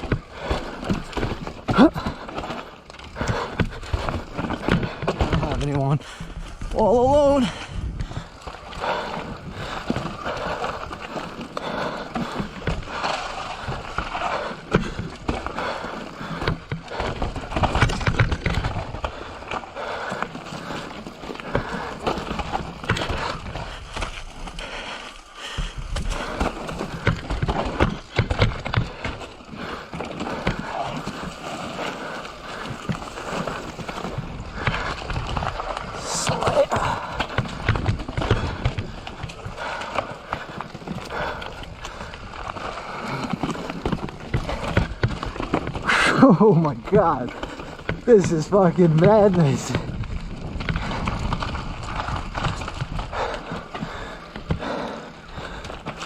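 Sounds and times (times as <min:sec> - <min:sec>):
bike chain and frame rattling: 0:00.0 - 0:56.0
bike tyres skittering over rocks: 0:00.0 - 0:56.0.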